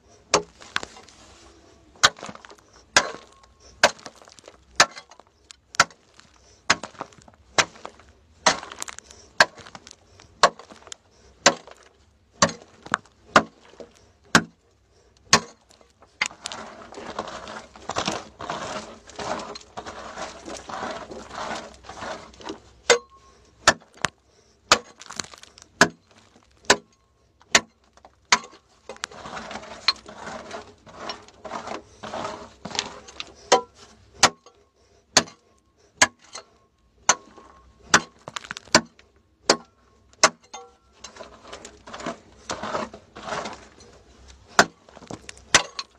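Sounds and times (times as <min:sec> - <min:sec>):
scraping and crumbling soil: 0:00.0 - 0:45.9
hand tool striking hard earth: 0:00.2 - 0:01.1, 0:01.9 - 0:14.6, 0:15.2 - 0:45.9.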